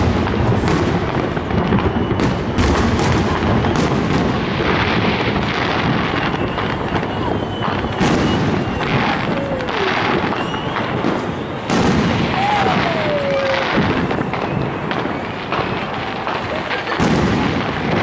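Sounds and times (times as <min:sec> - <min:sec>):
falling firework whistle: 0:00.0 - 0:18.0
firework shells booming: 0:00.0 - 0:18.0.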